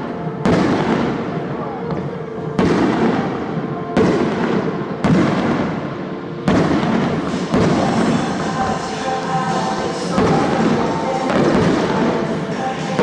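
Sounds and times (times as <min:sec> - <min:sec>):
fireworks bangs with rumbling echo: 0:00.0 - 0:13.0.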